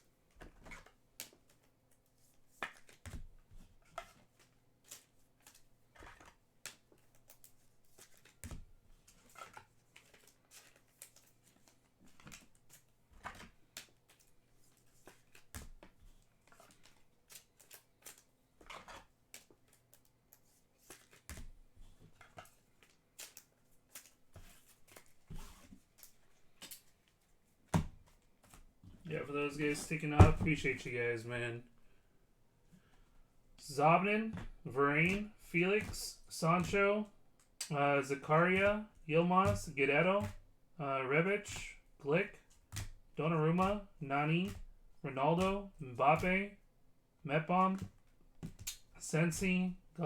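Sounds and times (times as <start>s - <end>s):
cards rustling in sleeves: 0.2s - 46.6s, 47.3s - 50.0s.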